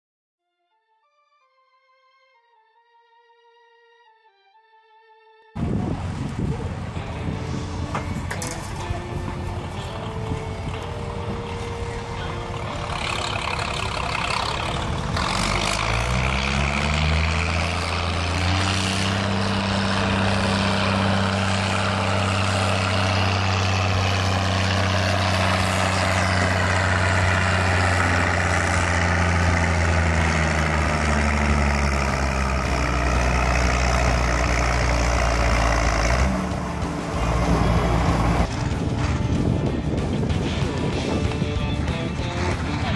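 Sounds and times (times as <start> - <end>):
tractor engine revving under load: 5.6 - 42.9.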